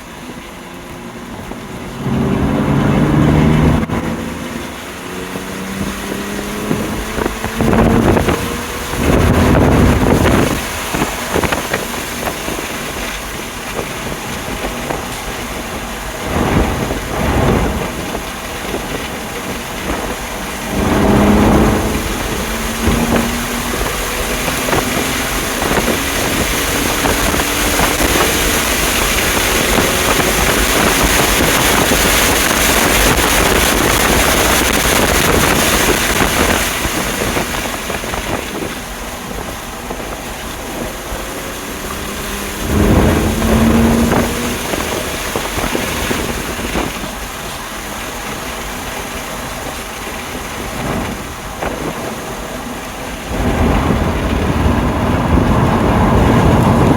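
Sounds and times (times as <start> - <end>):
car engine at speed: 0.0 - 56.9
wind and road noise: 0.0 - 56.9.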